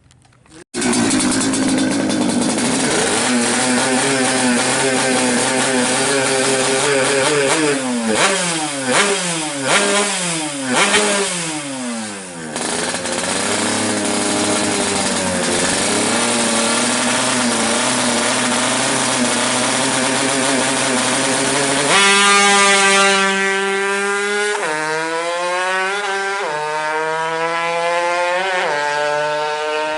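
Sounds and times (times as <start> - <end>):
two-stroke engine revving and idling: 0.5 - 29.9.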